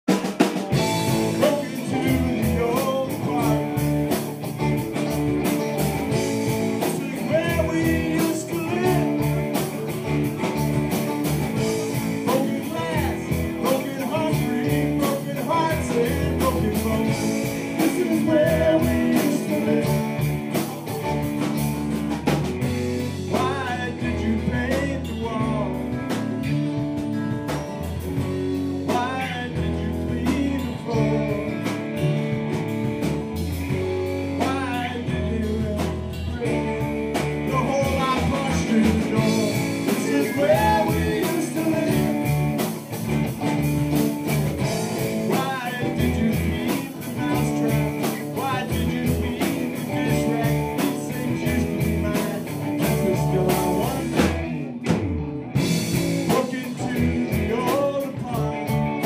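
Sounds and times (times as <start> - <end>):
acoustic and electric guitars: 0.0 - 59.0
bass guitar: 0.0 - 59.0
drum kit: 0.0 - 59.0
person singing: 0.7 - 4.4, 5.5 - 10.6, 11.5 - 21.3, 22.9 - 26.5, 28.8 - 32.2, 33.7 - 43.0, 44.3 - 54.9, 55.6 - 59.0.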